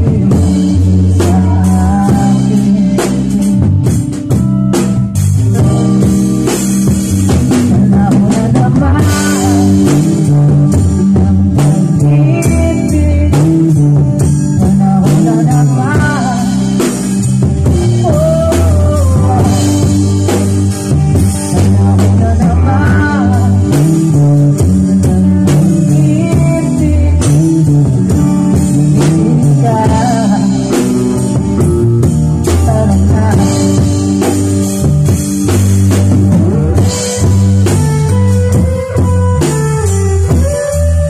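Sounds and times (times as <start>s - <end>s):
drum kit: 0.0s - 41.0s
electric bass: 0.0s - 41.0s
guitars playing: 0.0s - 41.0s
live band jamming: 0.0s - 41.0s
sliding lead melody: 0.0s - 41.0s.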